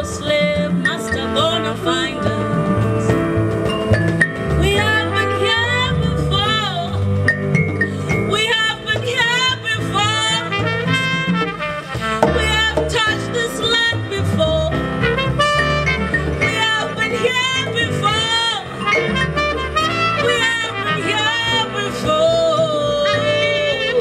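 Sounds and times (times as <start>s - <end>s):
woman singing into microphone: 0.0s - 3.4s, 4.6s - 7.1s, 7.9s - 10.9s, 12.3s - 15.1s, 16.4s - 24.0s
upright bass: 0.0s - 24.0s
trumpet: 0.8s - 7.0s, 9.2s - 24.0s.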